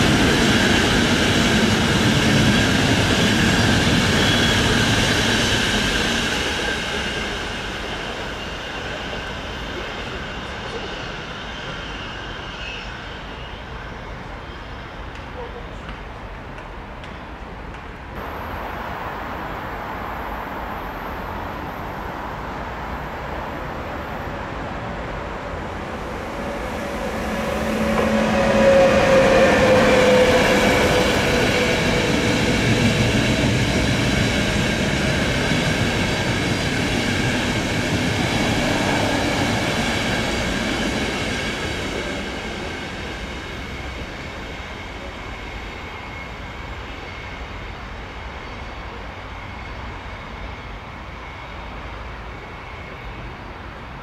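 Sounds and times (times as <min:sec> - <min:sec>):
high ringing of rolling coaches: 0:00.0 - 0:15.5, 0:18.2 - 0:54.0
train passing on tracks: 0:00.0 - 0:54.0.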